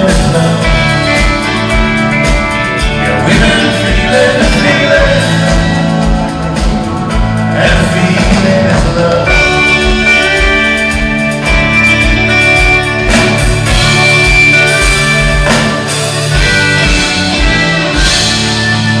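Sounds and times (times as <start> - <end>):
electric guitar: 0.0 - 19.0
live band playing: 0.0 - 19.0.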